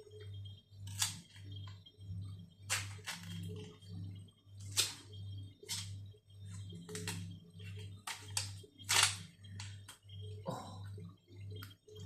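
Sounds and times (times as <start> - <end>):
pulsing low hum: 0.0 - 12.0.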